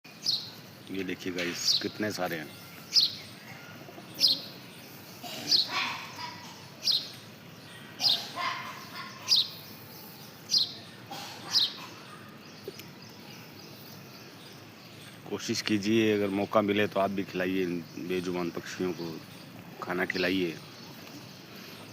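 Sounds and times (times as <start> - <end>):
bird chirping: 0.1 - 21.9.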